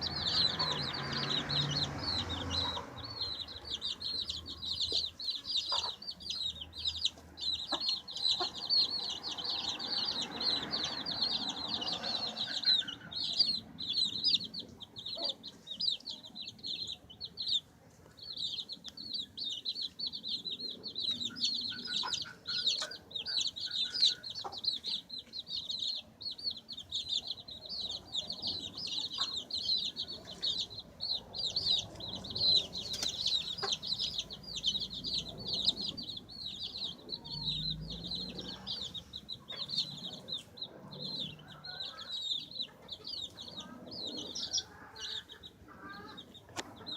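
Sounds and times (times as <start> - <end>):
baby chicks peeping: 0.0 - 46.9.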